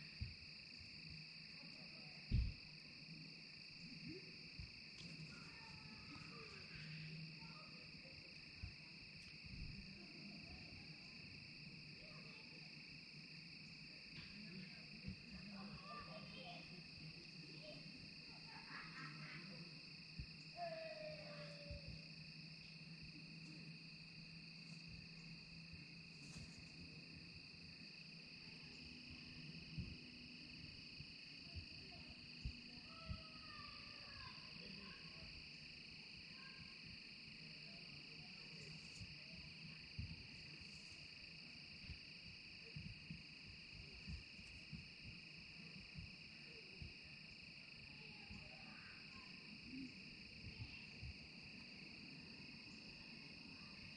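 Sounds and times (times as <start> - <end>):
crickets trilling: 0.0 - 53.9.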